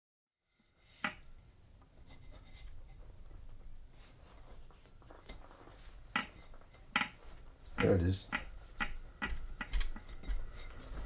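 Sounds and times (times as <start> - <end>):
faint ticks and rubbing: 1.9 - 11.0.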